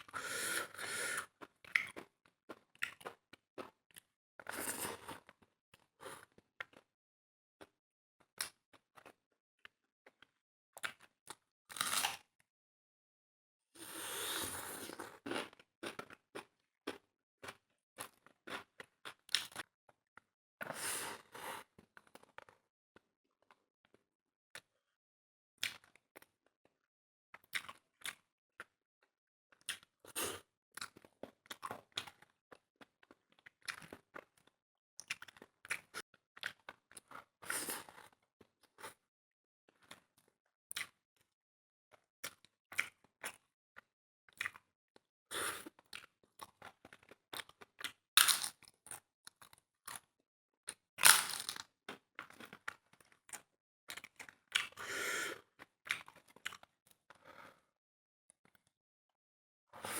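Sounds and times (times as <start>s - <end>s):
chewing and crunching food: 0.0s - 6.9s, 7.6s - 12.4s, 13.8s - 24.0s, 24.6s - 24.8s, 25.6s - 39.1s, 39.7s - 57.7s, 58.3s - 58.7s.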